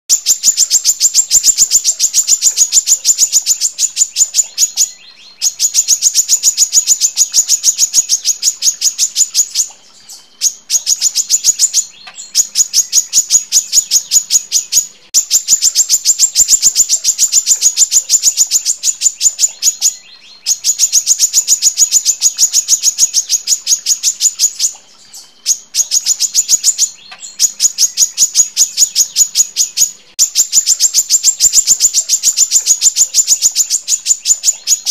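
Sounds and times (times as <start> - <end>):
sunbird sharp high chirps: 0.1 - 34.9.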